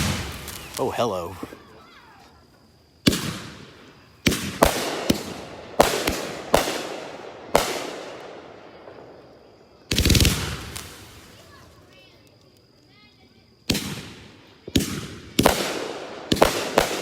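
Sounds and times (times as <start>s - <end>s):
firework bangs: 0.0s - 2.2s, 3.0s - 12.2s, 13.6s - 17.0s.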